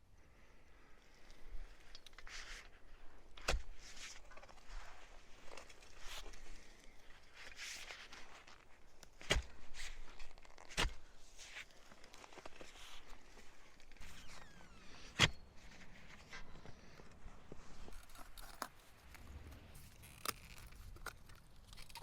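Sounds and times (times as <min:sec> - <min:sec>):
soft rustling: 0:00.4 - 0:22.0.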